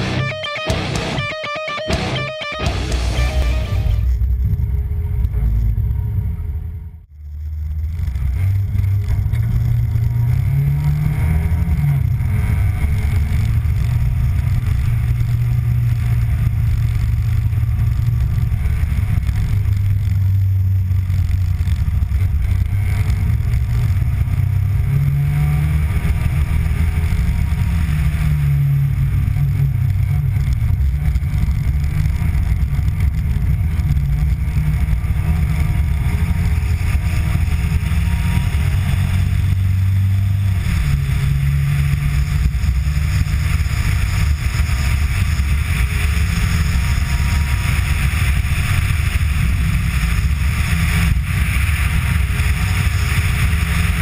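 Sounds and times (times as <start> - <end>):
rally car engine running hard: 0.0 - 54.0.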